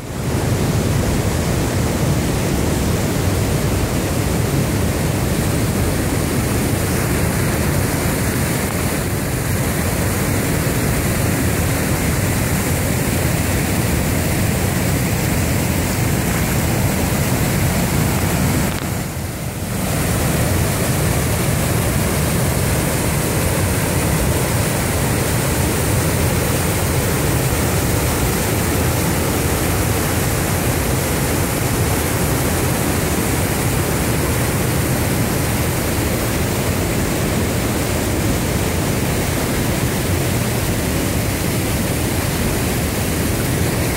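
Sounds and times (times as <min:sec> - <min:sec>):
river rapids rushing over rocks: 0:00.0 - 0:43.9.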